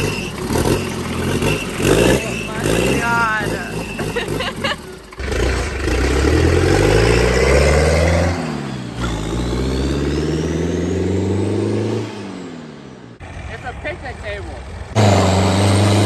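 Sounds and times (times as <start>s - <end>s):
diesel engine revving: 0.0s - 16.0s.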